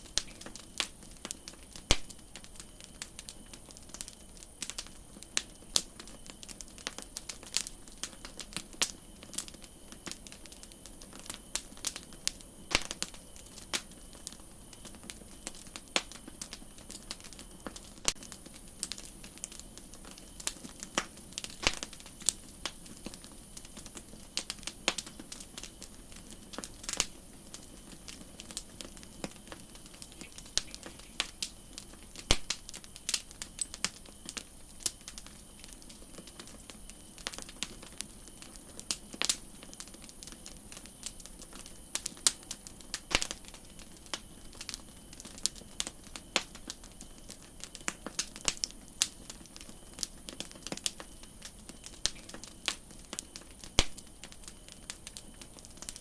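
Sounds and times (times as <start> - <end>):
low hiss: 0.0 - 45.3
campfire crackling: 0.0 - 56.0.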